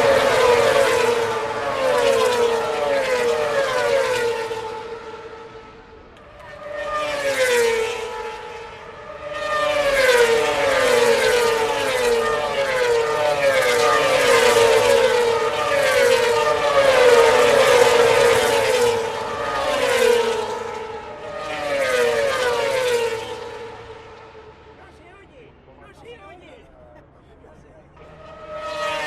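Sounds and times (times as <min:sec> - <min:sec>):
racing motorcycles passing by: 0:00.0 - 0:25.0, 0:27.4 - 0:29.0.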